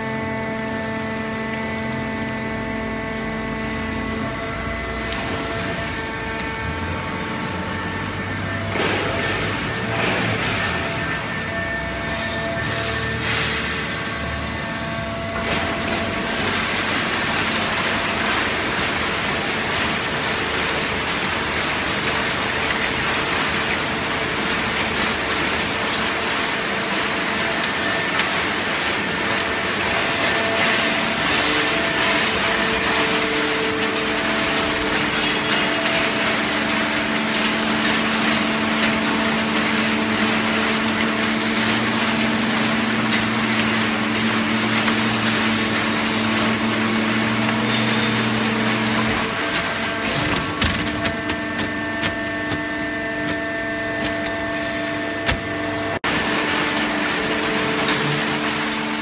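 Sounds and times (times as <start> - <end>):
baling press machine running: 0.0 - 59.0.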